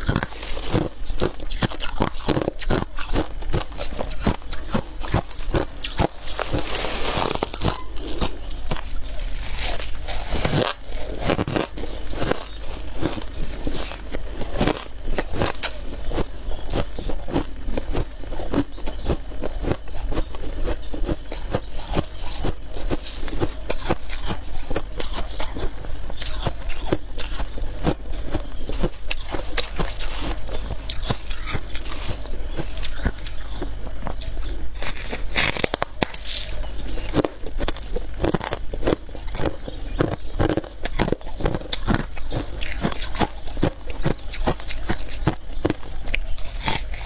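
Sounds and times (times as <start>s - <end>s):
chewing frost crunches: 0.0s - 47.0s.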